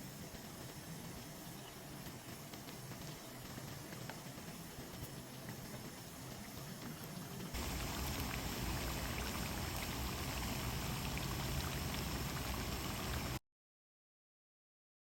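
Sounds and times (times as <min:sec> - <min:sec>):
bananas frying in hot oil: 0:00.0 - 0:13.4.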